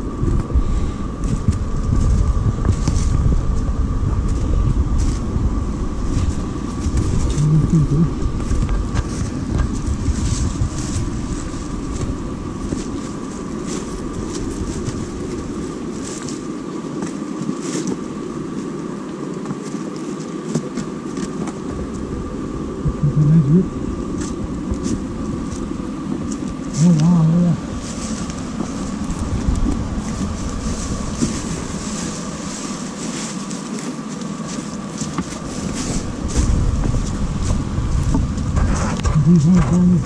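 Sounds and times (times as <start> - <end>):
footsteps crunching on dry leaves: 0.0 - 40.0
wind rumble on microphone: 0.0 - 40.0.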